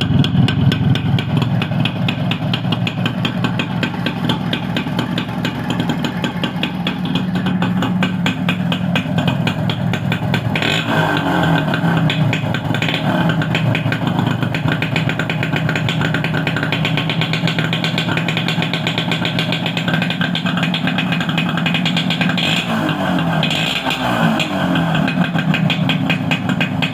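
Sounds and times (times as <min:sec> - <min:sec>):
two-stroke motorcycle engine running: 0:00.0 - 0:26.9.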